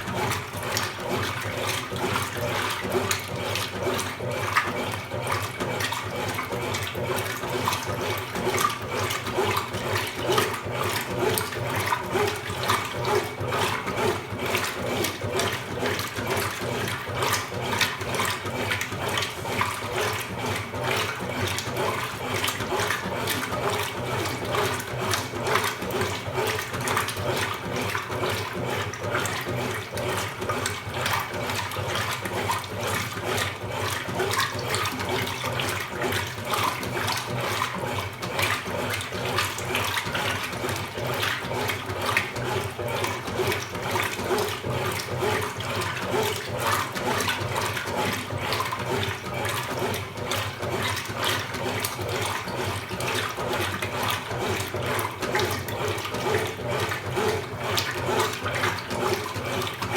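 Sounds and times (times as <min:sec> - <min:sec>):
washing machine water swishing: 0:00.0 - 0:59.9.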